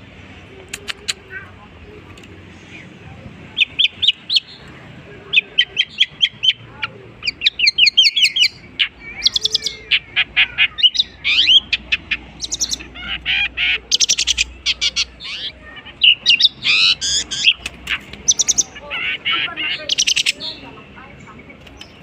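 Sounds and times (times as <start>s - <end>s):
bird singing varied song: 0.0s - 22.0s.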